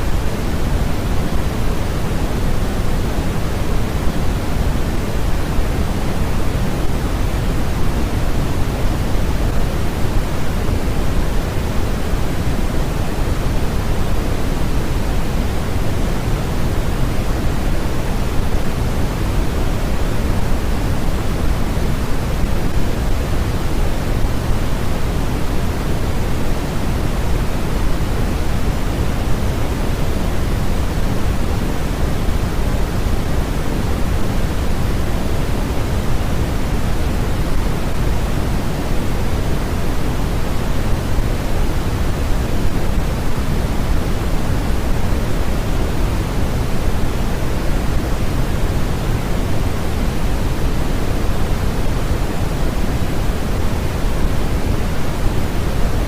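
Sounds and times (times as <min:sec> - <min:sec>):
steady low hiss noise: 0:00.0 - 0:56.0.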